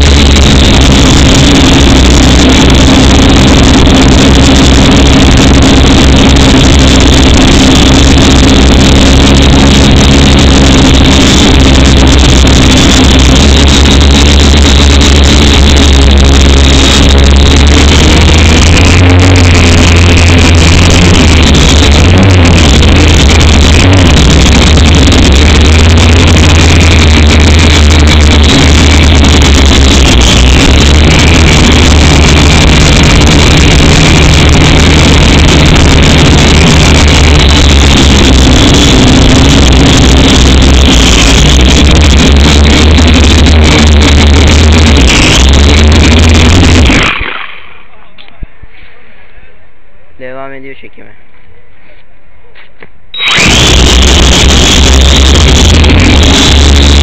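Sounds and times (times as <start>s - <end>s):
drone propellers buzzing: 0.0s - 47.6s, 53.2s - 57.0s.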